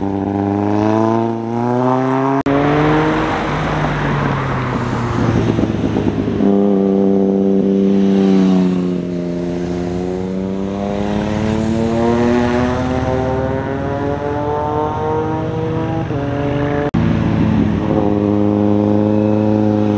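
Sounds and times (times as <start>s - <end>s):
motorcycle engine accelerating: 0.0s - 19.9s
road noise rush: 0.0s - 19.9s.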